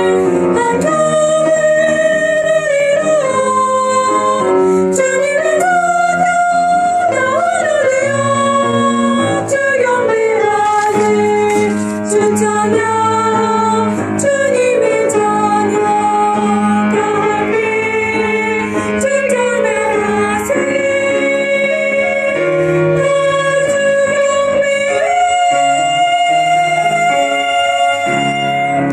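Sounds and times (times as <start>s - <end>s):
piano accompaniment: 0.0s - 28.9s
soprano singing: 0.0s - 28.9s.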